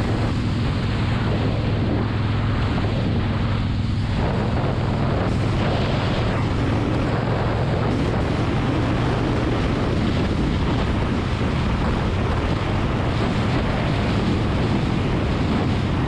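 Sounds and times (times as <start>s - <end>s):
motorcycle engine humming: 0.0s - 16.0s
wind rushing over microphone: 0.0s - 16.0s.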